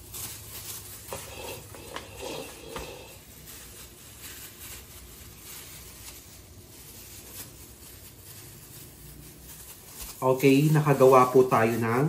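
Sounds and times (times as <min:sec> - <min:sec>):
scooping cookie dough: 0:00.0 - 0:12.0.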